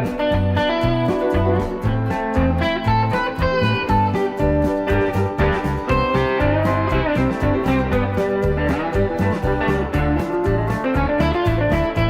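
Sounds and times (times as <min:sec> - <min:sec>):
bass line: 0:00.0 - 0:12.0
plucked guitar: 0:00.0 - 0:12.0.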